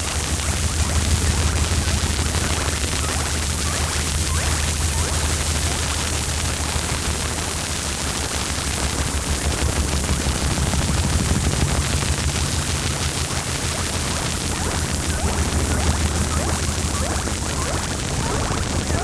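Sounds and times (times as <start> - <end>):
constant low hum: 0.0 - 19.0
hiss and static noise music: 0.0 - 19.0.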